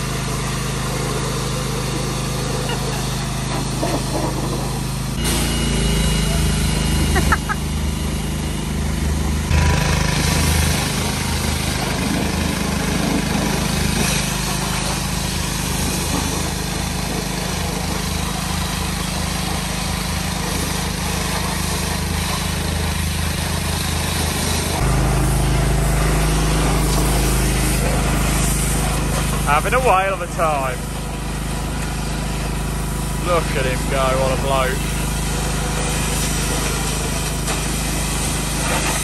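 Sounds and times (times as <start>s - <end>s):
water jet hissing on metal: 0.0s - 7.5s, 9.9s - 39.0s
pressure washer motor humming: 0.0s - 39.0s.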